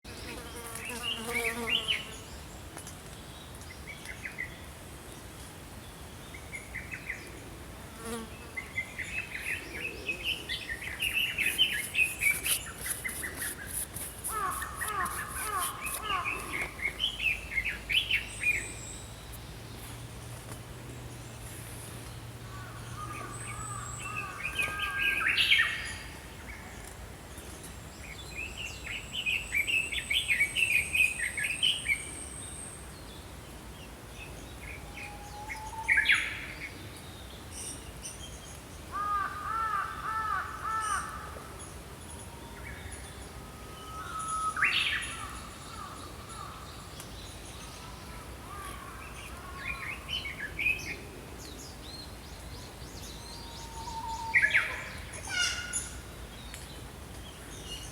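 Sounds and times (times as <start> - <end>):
small songbirds chirping: 0.1 - 7.4, 8.0 - 57.9.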